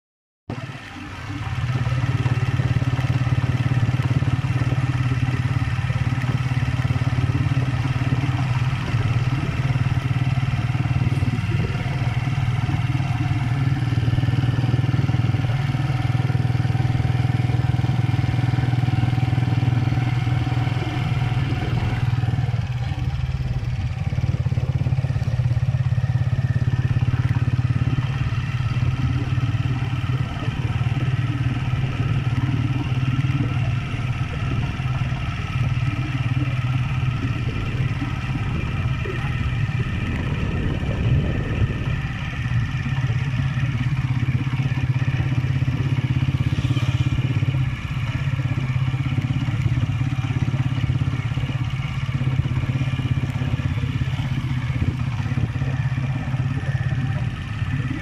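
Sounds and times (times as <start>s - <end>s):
motorcycle engine droning: 0.5s - 58.0s.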